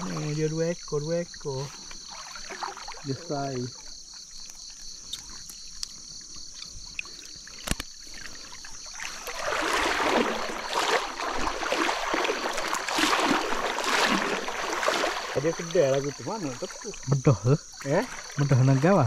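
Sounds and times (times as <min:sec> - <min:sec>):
high insect trill: 0:00.0 - 0:19.0
river water splashing: 0:00.0 - 0:19.0.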